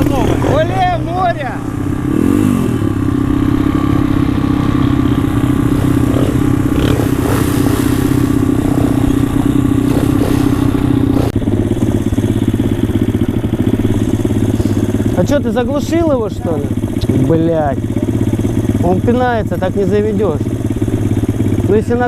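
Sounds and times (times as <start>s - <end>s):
motorbike engine idling: 0.0s - 22.0s.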